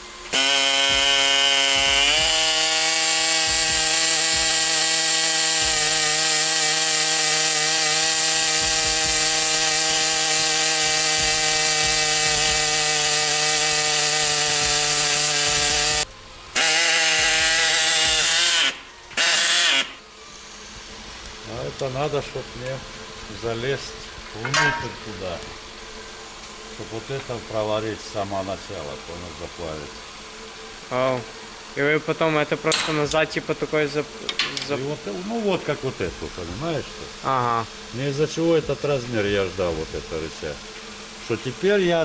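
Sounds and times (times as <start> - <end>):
power tool cutting metal: 0.0 - 42.0.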